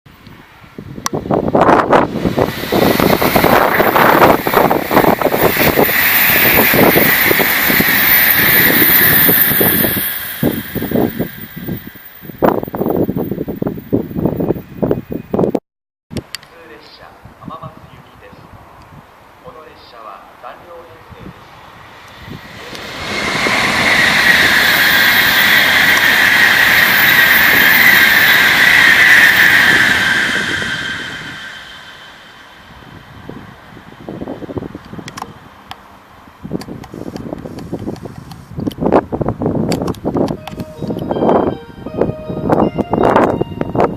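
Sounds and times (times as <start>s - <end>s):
high-speed train passing: 0.3s - 15.5s, 16.2s - 43.9s.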